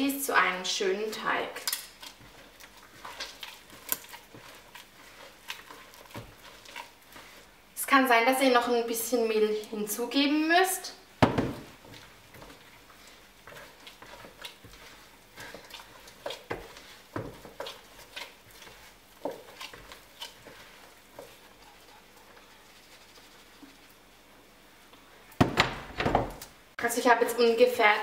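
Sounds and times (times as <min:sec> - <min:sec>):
dough squelching and patting: 0:00.0 - 0:25.6.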